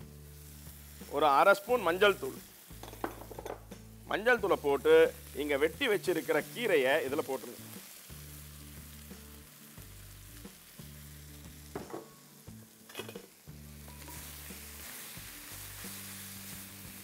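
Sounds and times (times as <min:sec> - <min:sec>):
spinach sizzling in a wok: 0:00.0 - 0:17.0.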